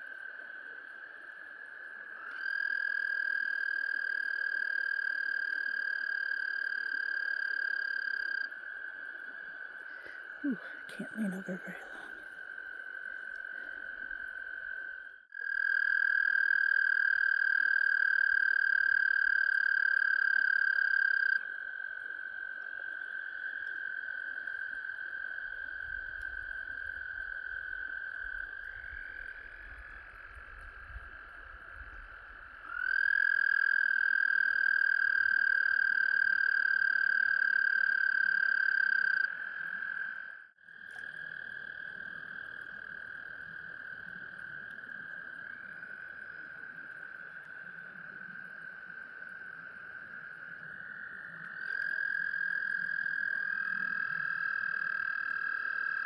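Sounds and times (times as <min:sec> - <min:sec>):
frogs trilling: 0:00.0 - 0:56.0.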